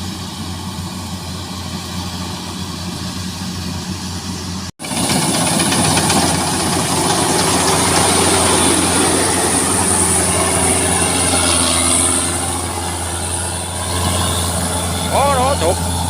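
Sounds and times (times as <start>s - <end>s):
diesel engine humming: 0.0s - 16.0s
high machinery whine: 0.0s - 16.0s.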